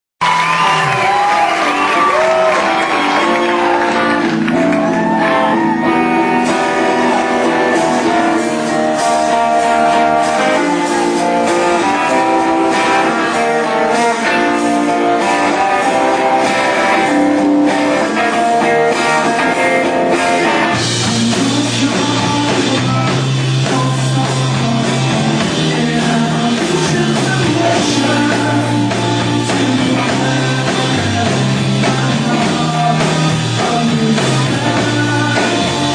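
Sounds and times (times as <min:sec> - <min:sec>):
electric guitar: 0:00.2 - 0:35.9
live rock band playing: 0:00.2 - 0:35.9.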